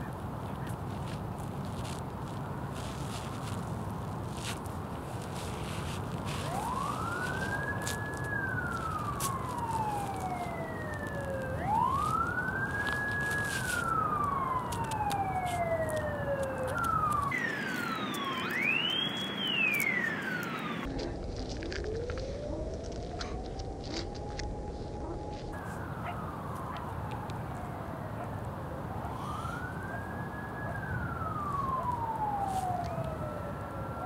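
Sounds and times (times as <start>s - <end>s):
low background rush: 0.0s - 34.0s
siren wailing: 4.3s - 34.0s.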